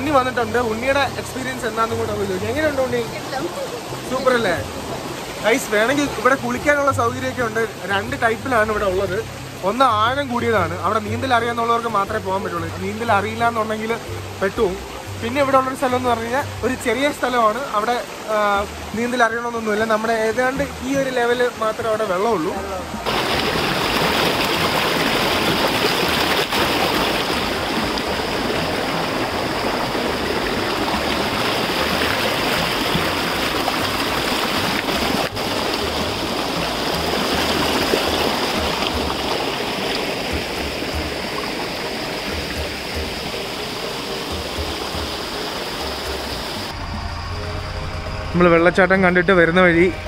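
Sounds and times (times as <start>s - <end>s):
stream water rushing over rocks: 0.0s - 50.0s.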